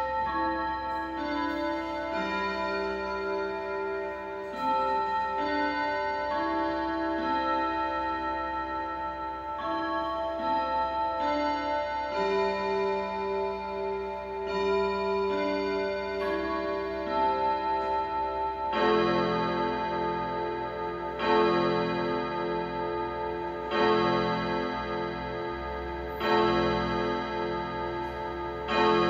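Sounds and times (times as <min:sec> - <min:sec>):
clock chiming a melody: 0:00.0 - 0:29.0.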